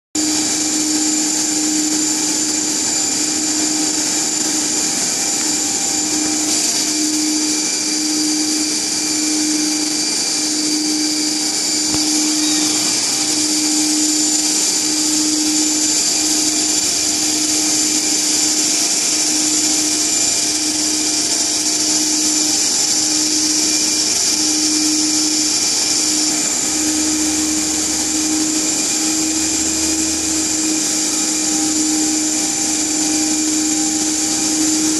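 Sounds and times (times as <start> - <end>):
alternator sets whining and humming: 0.2 - 34.9.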